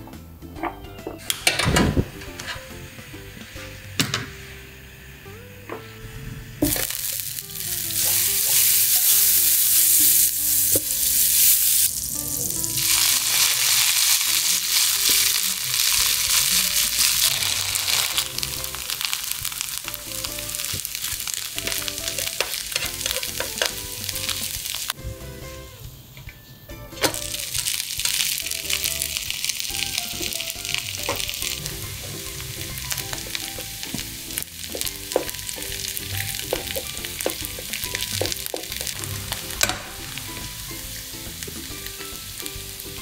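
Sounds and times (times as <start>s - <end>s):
potato sizzling in a pan: 2.1s - 25.8s, 26.9s - 43.0s.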